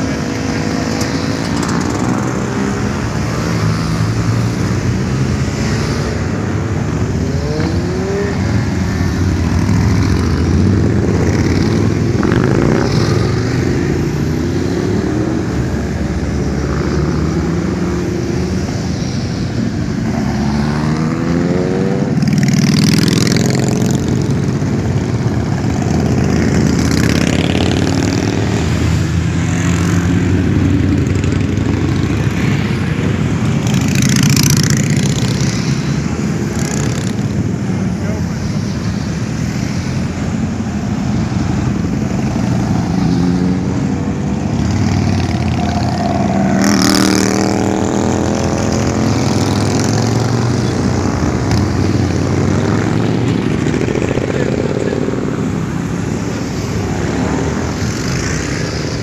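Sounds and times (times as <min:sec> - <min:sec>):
motorcycles passing: 0:00.0 - 0:59.0.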